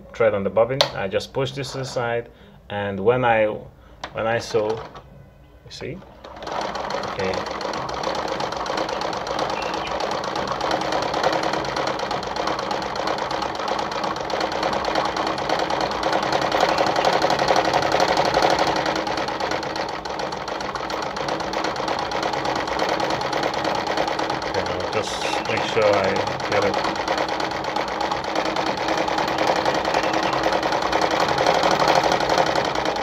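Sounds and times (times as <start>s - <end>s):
treadle sewing machine clatter: 6.1s - 33.0s.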